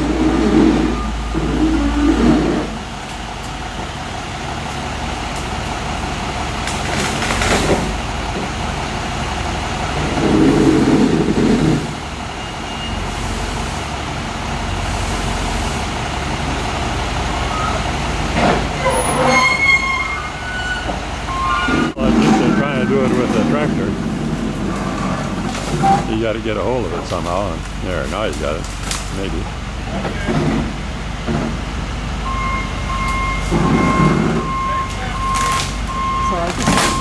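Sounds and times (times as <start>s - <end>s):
wheel loader diesel engine running: 0.0s - 37.0s.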